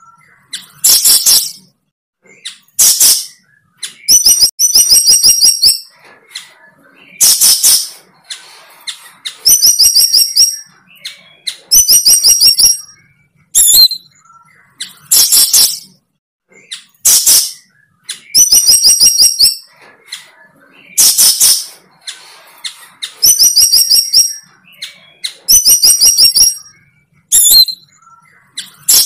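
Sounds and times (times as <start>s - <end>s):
bird high clear chirps: 0.0s - 29.0s
bird harsh calls: 2.2s - 15.9s, 16.5s - 29.0s.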